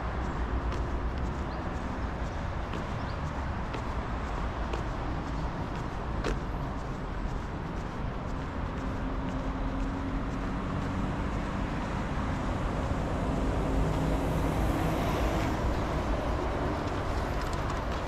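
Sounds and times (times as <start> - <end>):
vehicle passing with low hum: 0.0 - 18.0.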